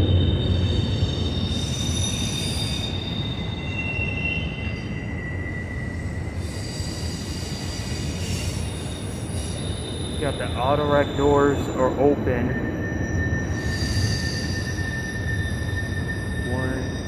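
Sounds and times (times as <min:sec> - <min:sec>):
freight train rumble: 0:00.0 - 0:17.0
train wheels squealing on rail: 0:00.0 - 0:17.0.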